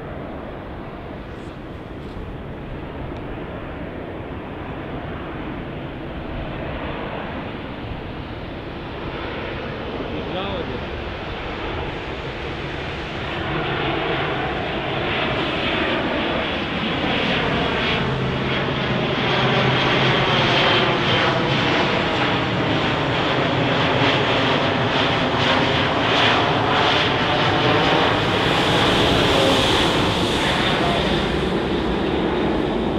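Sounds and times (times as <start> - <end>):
jetliner approaching overhead: 0.0 - 32.9.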